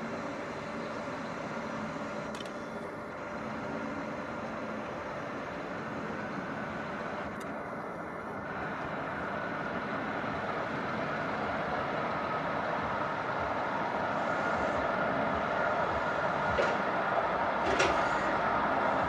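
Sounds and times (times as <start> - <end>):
truck engine hydraulic hum: 0.0 - 19.0.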